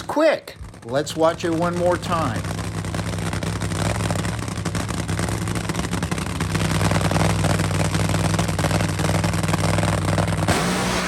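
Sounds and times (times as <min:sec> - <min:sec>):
dragster engine crackling drone: 0:00.0 - 0:11.0.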